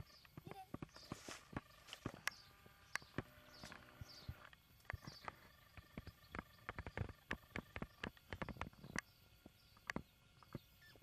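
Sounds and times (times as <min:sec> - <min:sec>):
deer fawn clicks and soft taps: 0:00.1 - 0:10.7.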